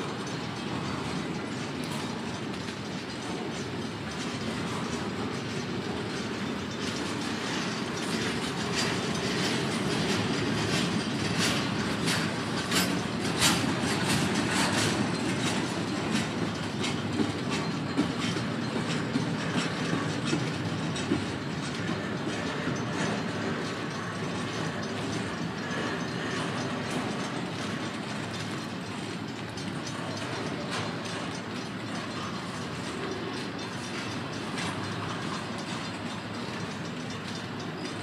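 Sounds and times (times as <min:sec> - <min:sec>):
train wheels rumbling on track: 0:00.0 - 0:38.0
wheels clicking and knocking: 0:00.0 - 0:38.0.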